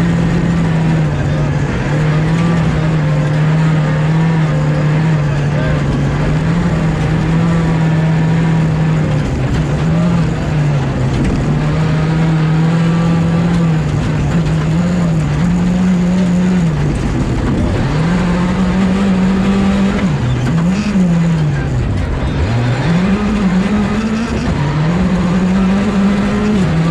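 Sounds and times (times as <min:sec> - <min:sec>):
rally car engine revving: 0:00.0 - 0:26.9.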